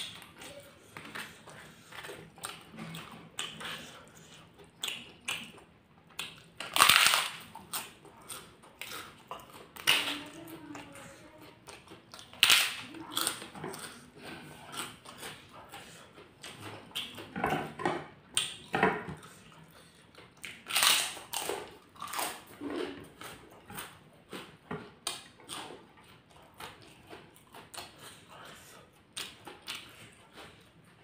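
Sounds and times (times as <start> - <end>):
close chewing with crunches: 0.0 - 31.0.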